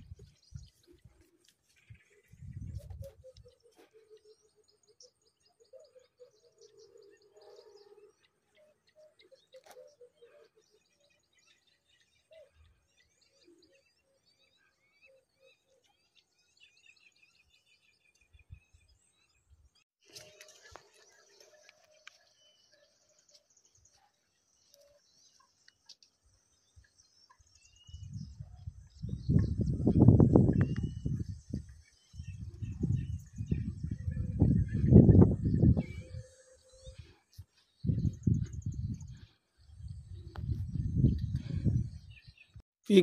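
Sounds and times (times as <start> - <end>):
birds chirping and trilling: 0.0 - 43.0.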